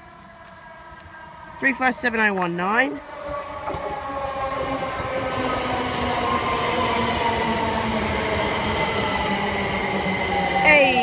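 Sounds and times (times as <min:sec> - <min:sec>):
train traction motors whining: 0:00.0 - 0:11.0
wheel and rail rumble: 0:00.0 - 0:11.0.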